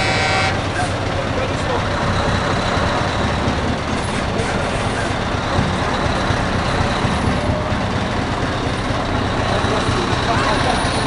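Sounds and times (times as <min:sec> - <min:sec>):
traffic noise: 0:00.0 - 0:11.0
truck engine running: 0:00.0 - 0:11.0.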